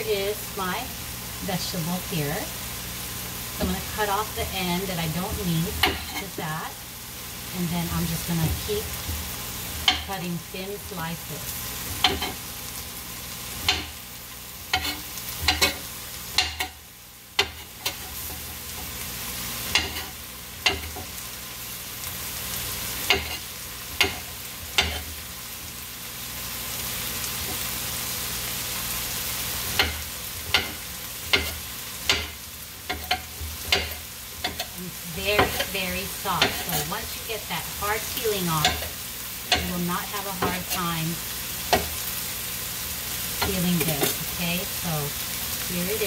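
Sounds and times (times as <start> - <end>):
frying pan sizzling: 0.0 - 46.0.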